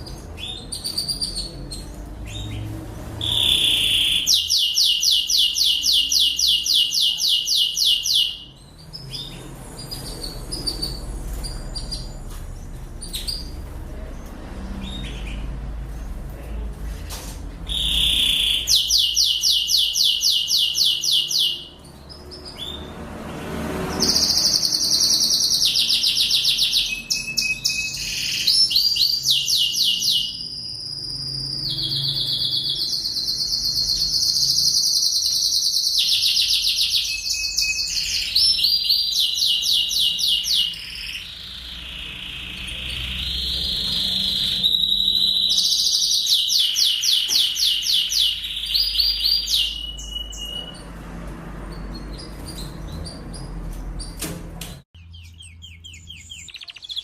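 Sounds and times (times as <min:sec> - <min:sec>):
canary singing trills: 0:00.0 - 0:16.2, 0:17.6 - 0:51.0, 0:55.0 - 0:57.0.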